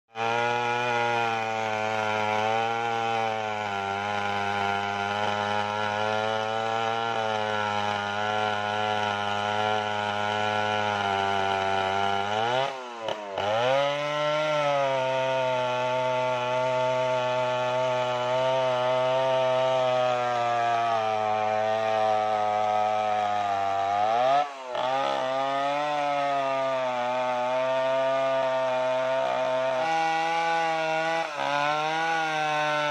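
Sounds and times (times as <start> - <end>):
chainsaw cutting a log: 0.1 - 32.9.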